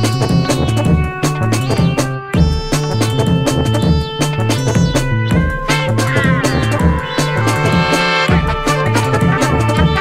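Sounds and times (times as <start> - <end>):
up-tempo music with drums and bass: 0.0 - 10.0.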